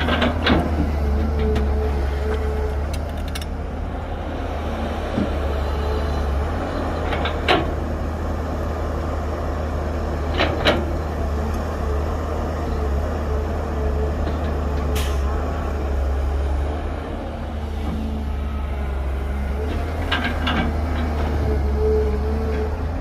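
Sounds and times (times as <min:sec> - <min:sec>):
heavy diesel engines rumbling: 0:00.0 - 0:23.0.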